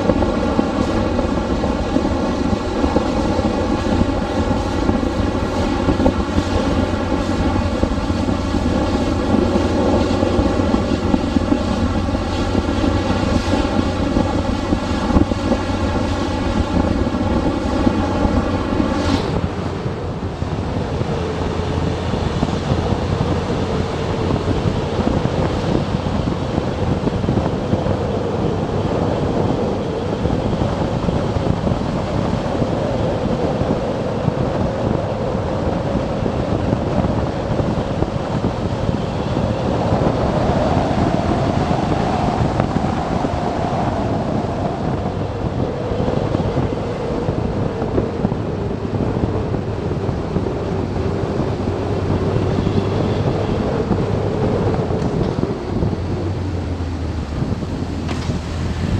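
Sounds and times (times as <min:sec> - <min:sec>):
motorcycle engine and wind noise: 0:00.0 - 0:58.9.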